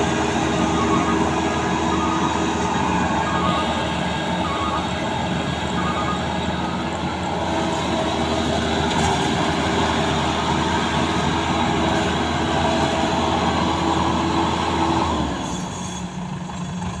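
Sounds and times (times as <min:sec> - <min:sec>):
combine harvester engine whining: 0:00.0 - 0:17.0.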